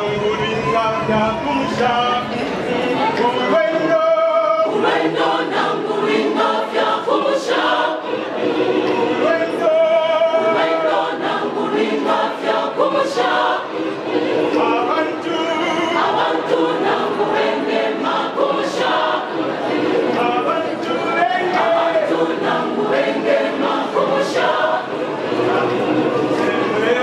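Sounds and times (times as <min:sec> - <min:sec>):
church choir singing gospel: 0:00.0 - 0:27.0.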